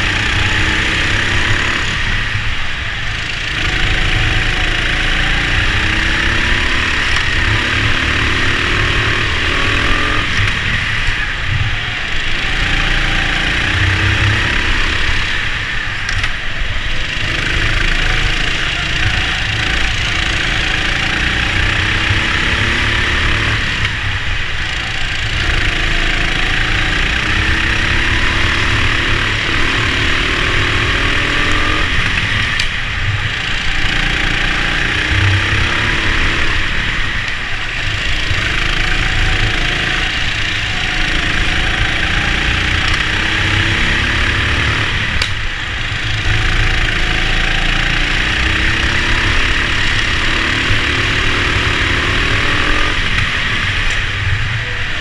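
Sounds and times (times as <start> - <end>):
go-kart engine racing: 0.0 - 55.0
other karts running: 0.0 - 55.0.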